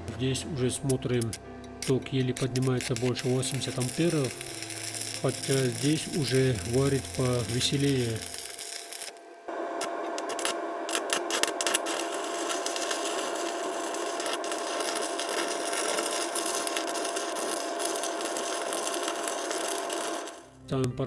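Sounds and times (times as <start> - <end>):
welding arc crackling hiss: 1.8 - 20.6.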